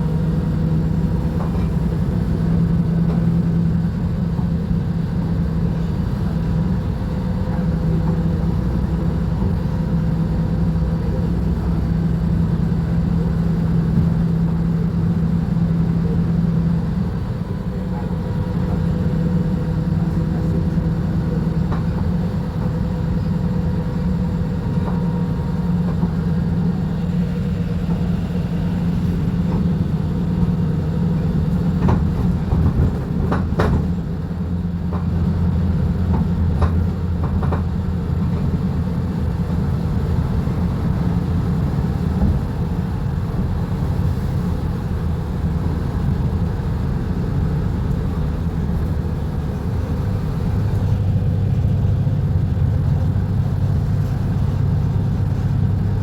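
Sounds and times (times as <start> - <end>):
bus engine humming: 0.0 - 56.0.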